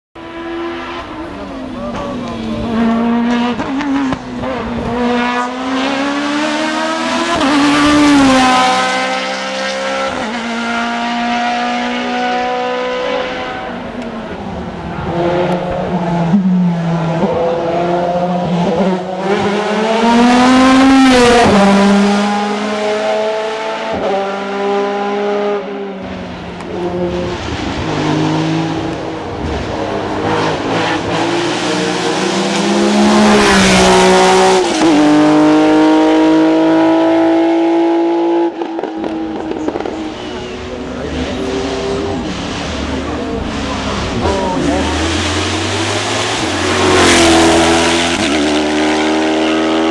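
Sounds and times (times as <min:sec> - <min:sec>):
race car engine revving: 0:00.2 - 0:49.9.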